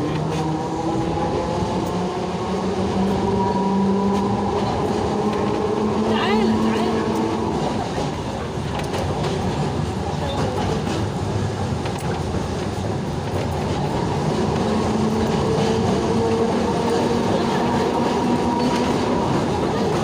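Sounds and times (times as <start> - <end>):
rail vehicle rumbling and rattling: 0.0 - 20.0.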